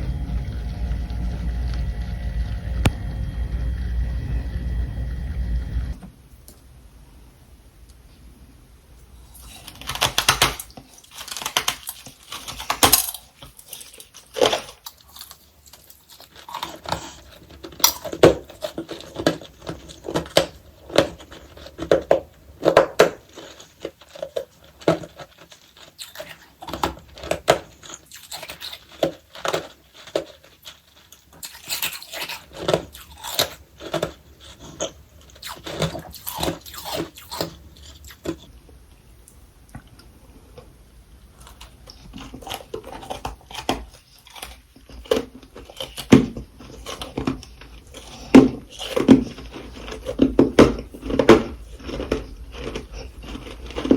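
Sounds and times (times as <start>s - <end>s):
crunching and chewing frost: 9.1s - 53.9s.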